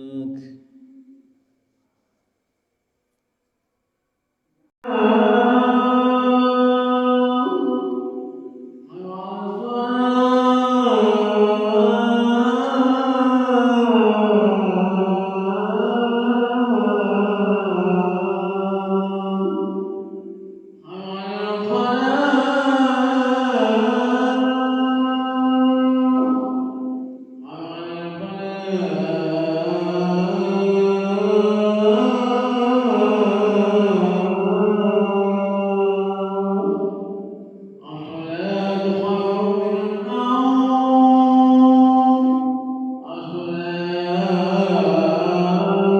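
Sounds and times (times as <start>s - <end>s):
man chanting: 0.0s - 0.8s, 4.8s - 20.1s, 20.8s - 45.9s.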